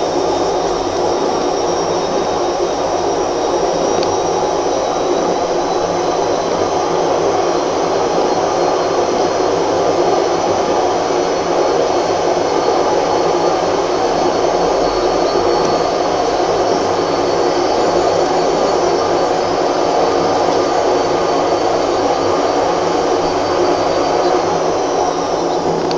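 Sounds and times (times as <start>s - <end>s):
mechanical whirring drone: 0.0s - 25.9s.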